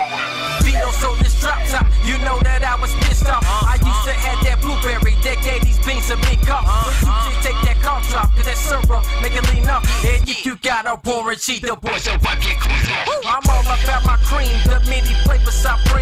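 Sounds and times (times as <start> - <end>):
hip hop music with heavy bass: 0.0 - 16.0.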